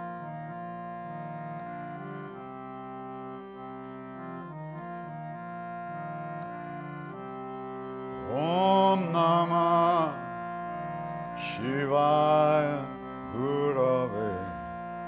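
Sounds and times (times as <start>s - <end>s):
harmonium playing chords: 0.0s - 15.0s.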